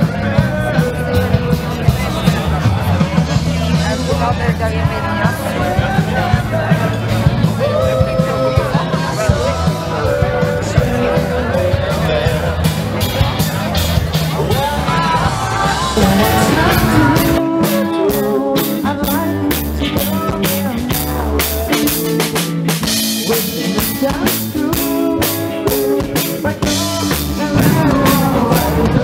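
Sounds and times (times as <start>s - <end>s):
bass guitar: 0.0s - 29.0s
drum kit beat: 0.0s - 29.0s
electric guitar: 0.0s - 29.0s.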